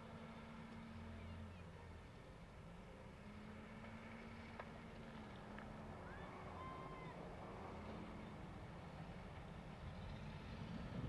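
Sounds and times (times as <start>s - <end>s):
faint diesel engine drone: 0.0s - 11.0s.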